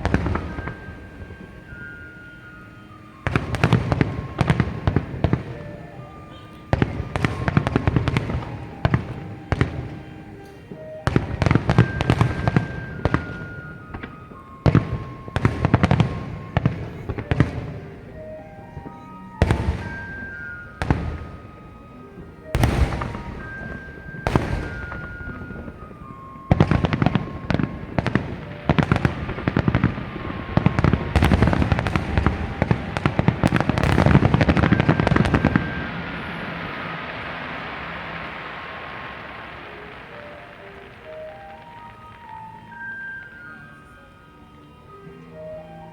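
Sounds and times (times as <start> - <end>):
crackling firework bursts: 0.0 - 44.3
fireworks bursting with sharp bangs: 0.0 - 44.3.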